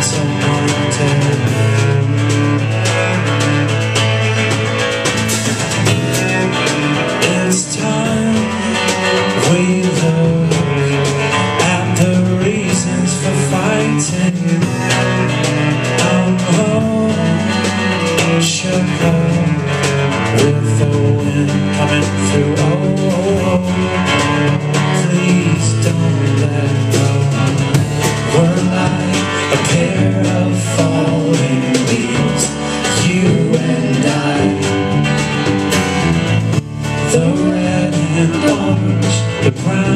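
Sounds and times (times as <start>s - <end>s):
electric bass guitar: 0.0s - 39.9s
strummed acoustic guitar: 0.0s - 39.9s.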